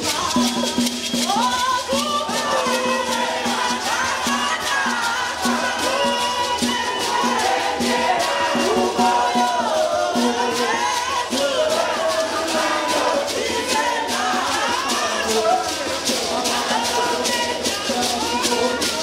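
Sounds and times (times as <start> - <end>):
hand rattles shaking: 0.0 - 19.0
women singing a hymn: 1.2 - 19.0.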